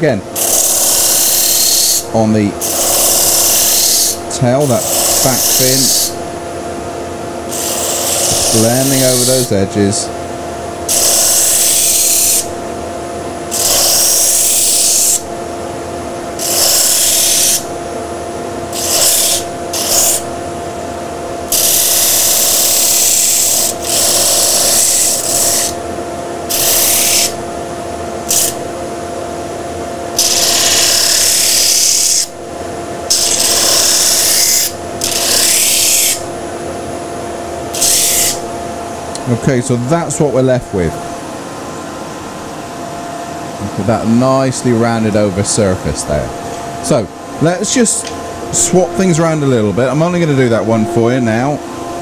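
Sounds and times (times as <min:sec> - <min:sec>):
disc sander humming: 0:00.0 - 0:42.8, 0:43.5 - 0:52.0.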